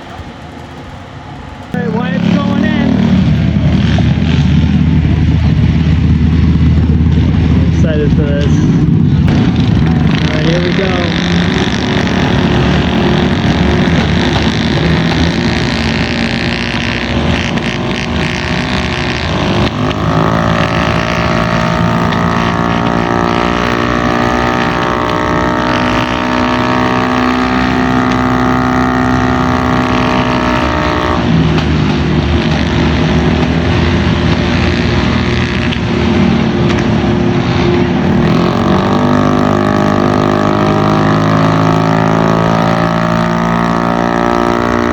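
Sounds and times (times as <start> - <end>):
scooter engine at full throttle: 0.0 - 44.9.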